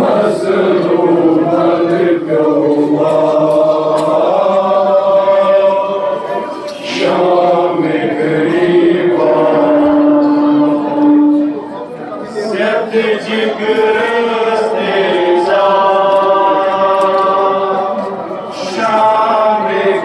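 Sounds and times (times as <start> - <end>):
voices chanting a lament: 0.0 - 20.0.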